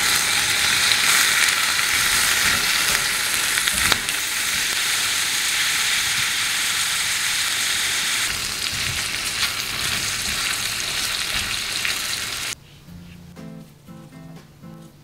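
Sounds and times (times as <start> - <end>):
food sizzling in a pan: 0.0 - 12.6.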